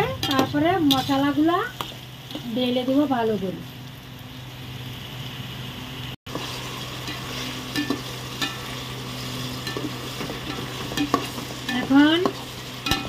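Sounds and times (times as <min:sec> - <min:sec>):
chicken and onions sizzling in oil: 0:00.0 - 0:13.0.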